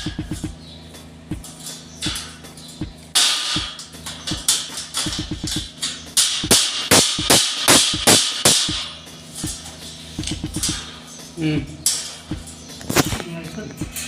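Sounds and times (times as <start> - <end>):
metal cable tray clanking: 1.3 - 14.0.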